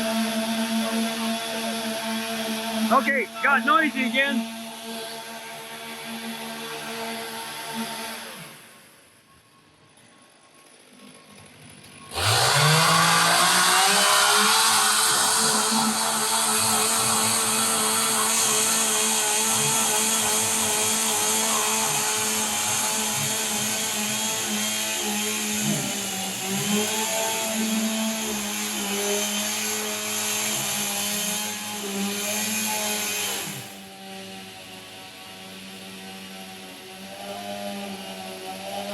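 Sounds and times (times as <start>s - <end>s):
chainsaws cutting a log: 0.0s - 8.9s, 11.2s - 38.9s.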